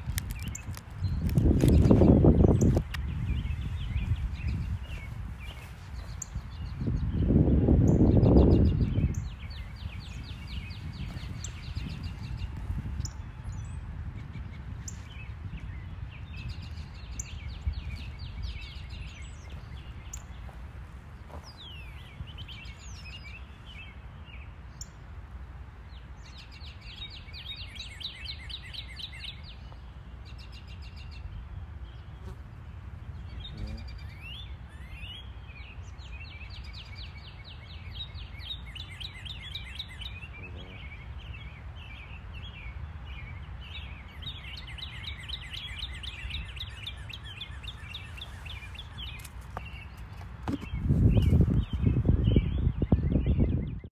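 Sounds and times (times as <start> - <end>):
songbirds trilling: 0.0 - 53.9.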